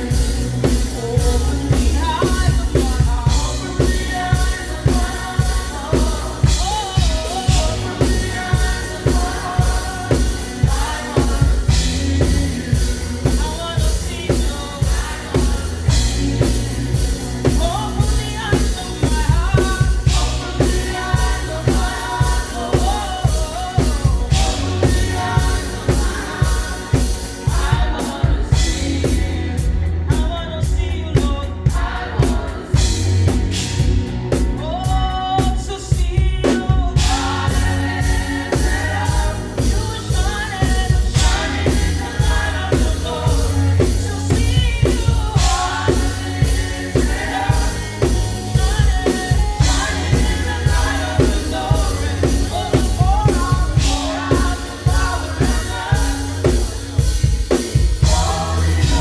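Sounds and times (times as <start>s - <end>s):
gospel band playing: 0.0s - 59.0s
people singing: 0.0s - 59.0s.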